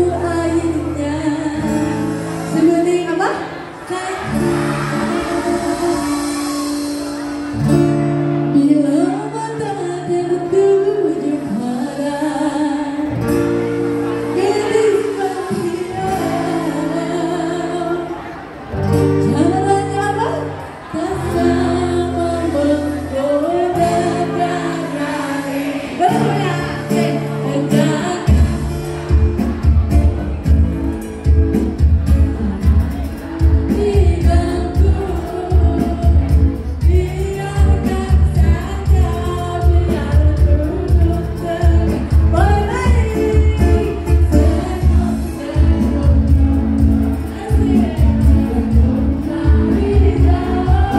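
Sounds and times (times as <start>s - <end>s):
person singing over held chords: 0.0s - 50.9s.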